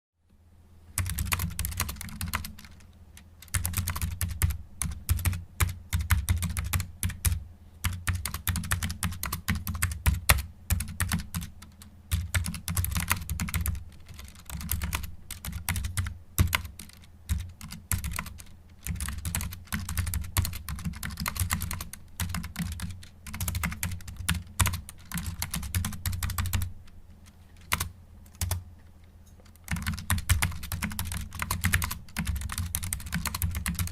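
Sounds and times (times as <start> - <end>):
computer keyboard typing: 1.0 - 28.6, 29.3 - 33.9.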